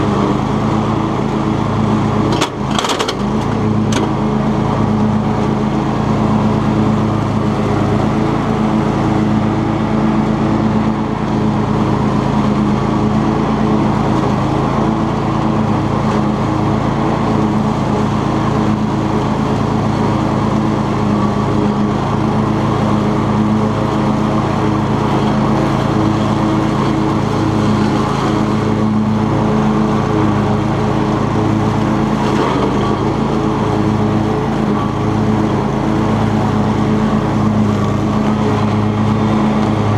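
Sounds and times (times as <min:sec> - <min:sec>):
riding lawn mower running: 0:00.0 - 0:39.9.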